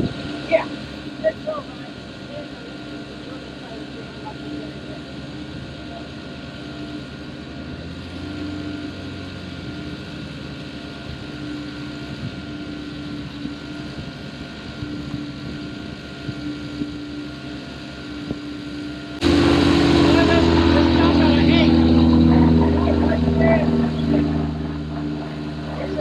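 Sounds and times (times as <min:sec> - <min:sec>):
engine droning with faint whine: 0:00.0 - 0:26.0.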